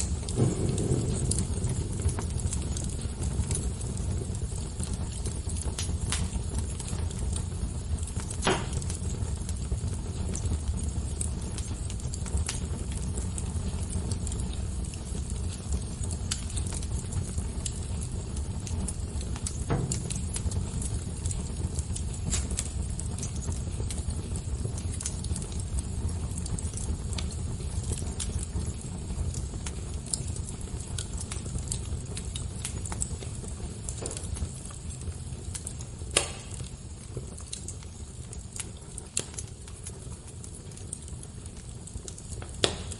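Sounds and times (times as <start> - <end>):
fire crackling and popping: 0.0 - 42.9
low rush of flames: 0.0 - 42.9.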